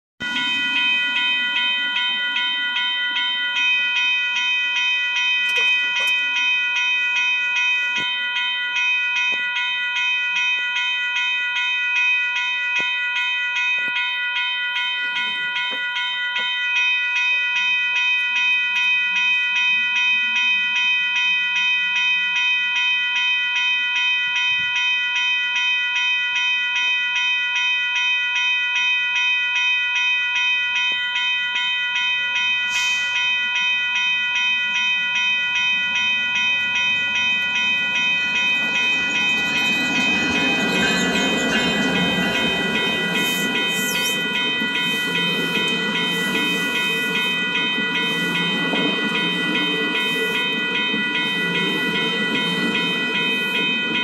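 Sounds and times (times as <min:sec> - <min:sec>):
level-crossing warning bell ringing: 0:00.2 - 0:54.0.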